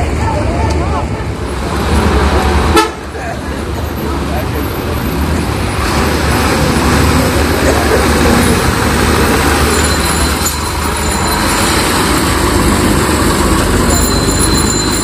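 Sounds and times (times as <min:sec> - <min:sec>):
diesel truck engine rumble: 0:00.0 - 0:15.0.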